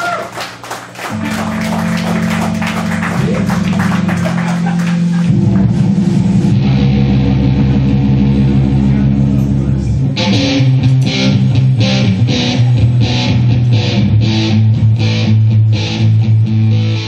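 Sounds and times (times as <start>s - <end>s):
distorted electric guitar: 1.0s - 17.0s.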